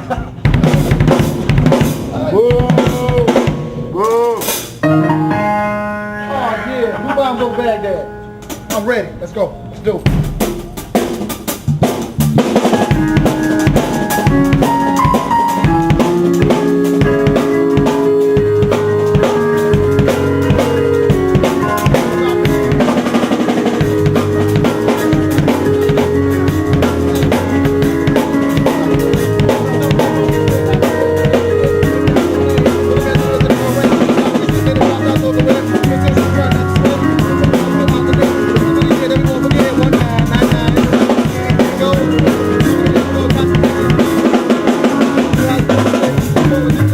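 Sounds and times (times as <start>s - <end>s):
drum kit beat: 0.0s - 5.5s, 6.3s - 46.9s
live band jamming: 0.0s - 46.9s.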